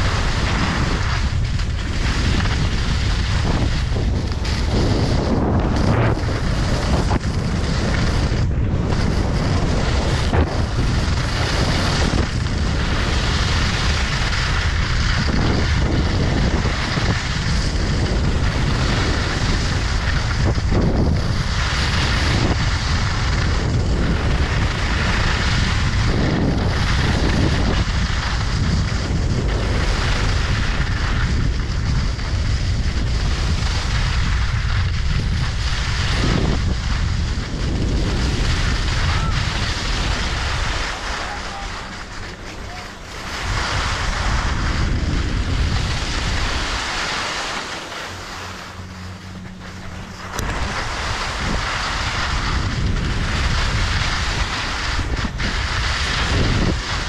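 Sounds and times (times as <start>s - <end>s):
skis carving across snow: 0.0s - 57.0s
wind buffeting microphone: 0.0s - 57.0s.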